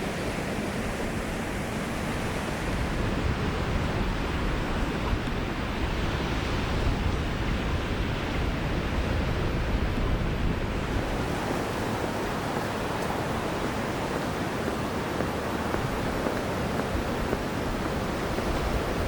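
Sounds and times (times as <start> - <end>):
waves washing onto beach: 0.0 - 19.0
wind rumbling on microphone: 0.0 - 19.0.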